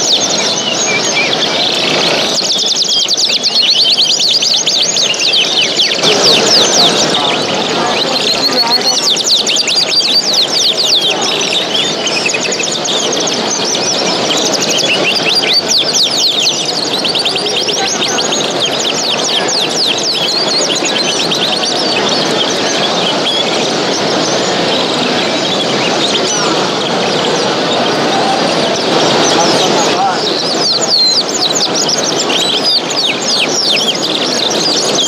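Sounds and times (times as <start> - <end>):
caged birds chirping: 0.0 - 35.0
murmur of crowd voices: 0.0 - 35.0.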